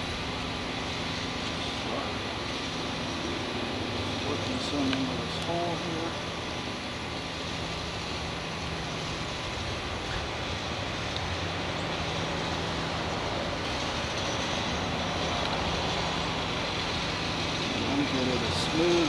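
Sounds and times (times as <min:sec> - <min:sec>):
motor vehicle running: 0:00.0 - 0:19.0.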